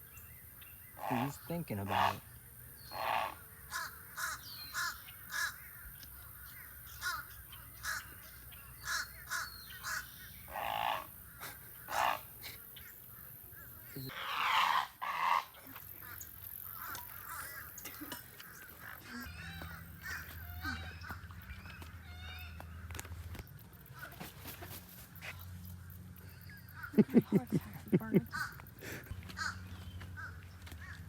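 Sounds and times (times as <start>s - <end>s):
birds cawing: 0.8s - 23.0s, 25.8s - 27.3s, 28.2s - 31.0s.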